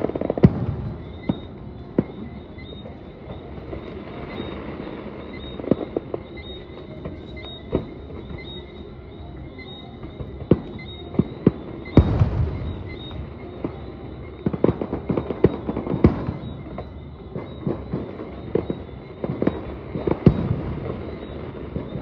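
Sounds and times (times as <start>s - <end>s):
fireworks bangs: 0.0s - 22.0s
steady background noise: 0.0s - 22.0s.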